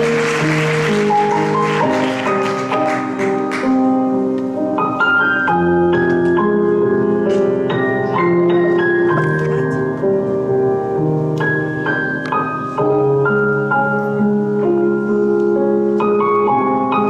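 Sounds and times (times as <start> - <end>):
slow keyboard ballad: 0.0 - 17.0.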